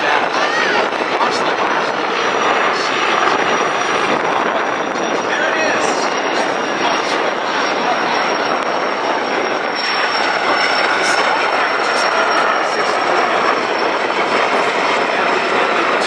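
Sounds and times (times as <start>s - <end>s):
helicopter turbine and rotor noise: 0.0s - 16.0s
high-pitched turbine whine: 0.0s - 16.0s.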